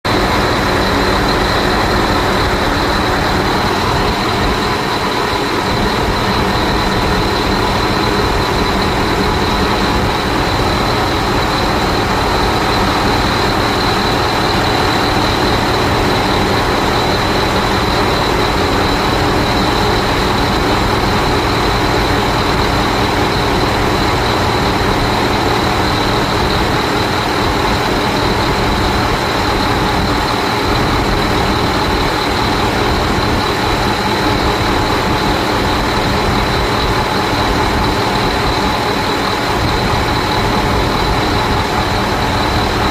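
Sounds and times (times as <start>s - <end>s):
diesel engine running: 0.0s - 42.9s
high-pitched whine: 0.1s - 42.9s.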